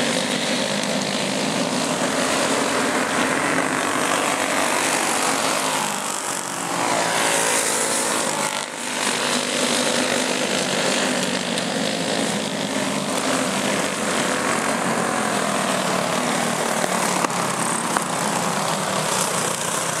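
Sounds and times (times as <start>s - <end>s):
go-kart engines buzzing: 0.0s - 20.0s.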